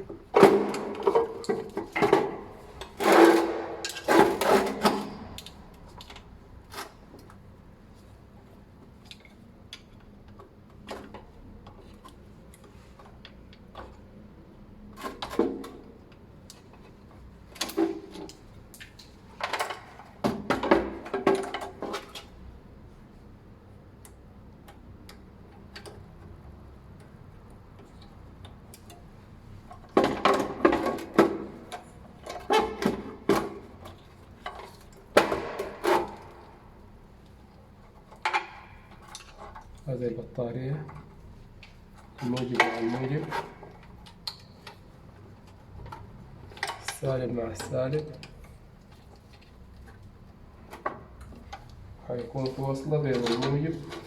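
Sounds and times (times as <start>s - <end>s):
clicks knocks and rattles of parts: 0.0s - 7.4s, 8.8s - 14.2s, 14.9s - 22.5s, 24.0s - 39.9s, 40.8s - 54.0s.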